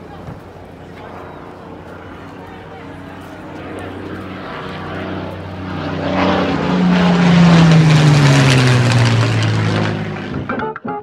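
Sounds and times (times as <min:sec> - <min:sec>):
propeller plane flying overhead: 0:00.0 - 0:11.0.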